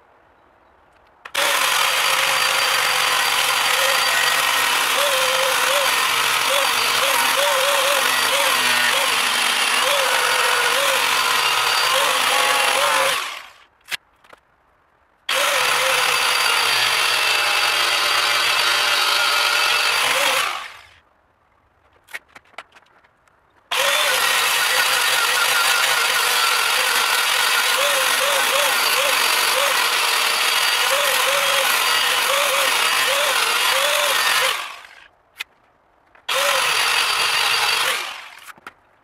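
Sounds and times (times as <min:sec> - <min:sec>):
electric power tool running: 0:01.3 - 0:13.6, 0:15.3 - 0:21.0, 0:23.7 - 0:35.0, 0:36.3 - 0:38.5.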